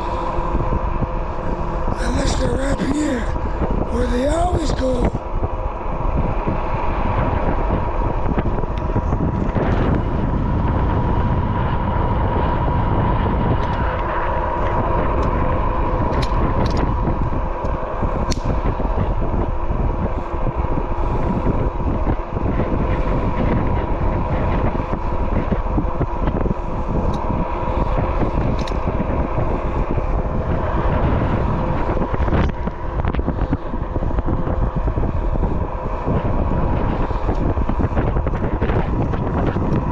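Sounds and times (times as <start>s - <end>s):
motor whine: 0.0s - 39.9s
wind and road noise: 0.0s - 39.9s.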